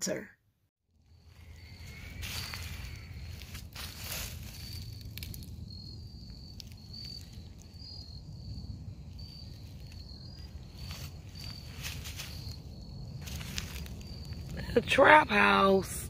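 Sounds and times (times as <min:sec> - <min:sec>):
insect trilling: 0:01.0 - 0:15.5.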